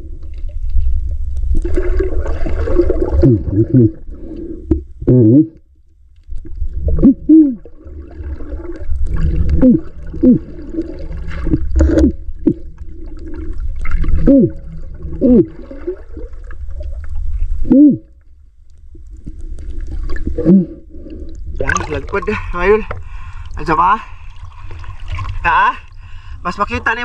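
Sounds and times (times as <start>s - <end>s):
water gurgling: 0.0s - 5.6s, 6.2s - 27.0s.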